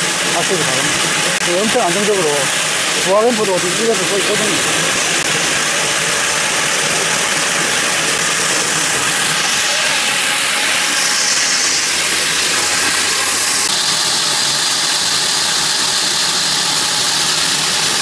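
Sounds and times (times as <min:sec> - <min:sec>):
core drill grinding: 0:00.0 - 0:18.0.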